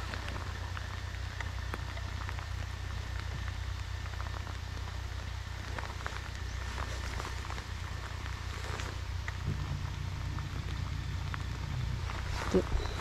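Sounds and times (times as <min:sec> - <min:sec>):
heavy rain on water: 0:00.0 - 0:13.0
low rumble: 0:00.0 - 0:13.0.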